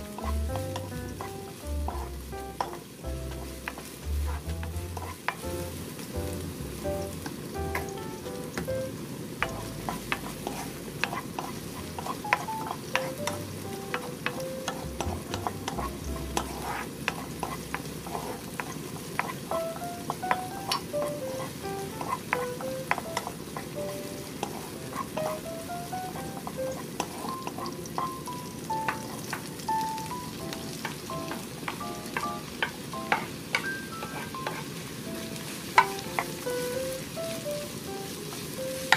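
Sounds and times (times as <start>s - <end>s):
spatula clicking and scraping pan: 0.0s - 5.5s, 7.8s - 8.6s, 9.4s - 29.6s, 30.5s - 34.8s, 35.4s - 36.7s
green onion sizzling in oil: 0.0s - 38.9s.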